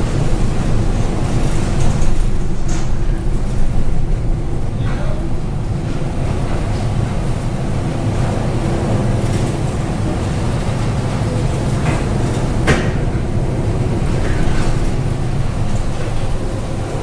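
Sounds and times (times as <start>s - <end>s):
low rumble aboard ship: 0.0s - 17.0s.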